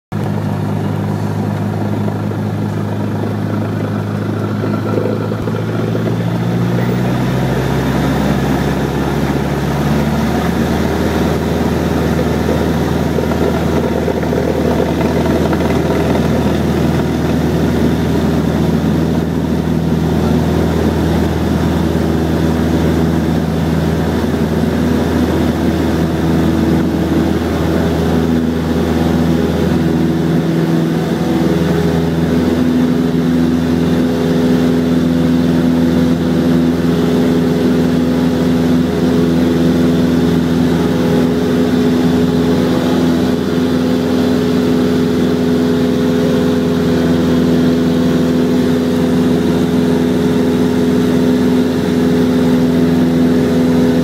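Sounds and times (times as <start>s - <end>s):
airplane engine and propeller: 0.1s - 54.0s.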